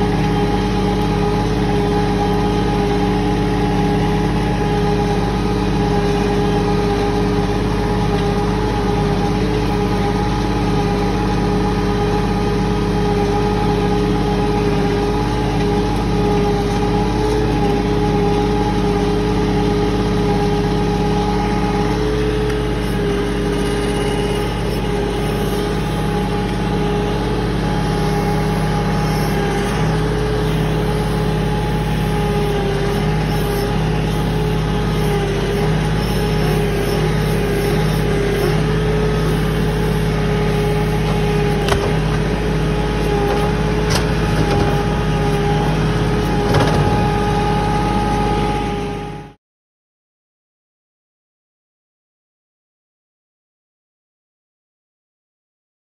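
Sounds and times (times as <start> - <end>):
tractor diesel engine running: 0.0 - 49.4.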